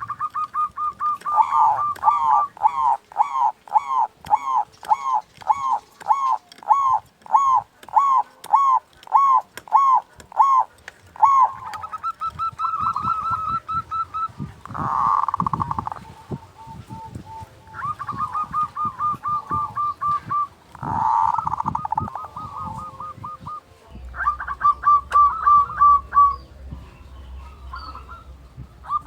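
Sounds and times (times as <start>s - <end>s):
dove cooing and trilling: 0.0s - 29.0s.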